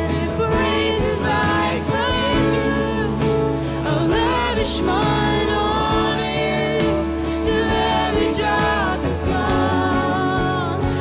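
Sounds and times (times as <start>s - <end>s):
bass guitar: 0.0s - 11.0s
keyboard: 0.0s - 11.0s
woman singing lead vocal: 0.0s - 11.0s.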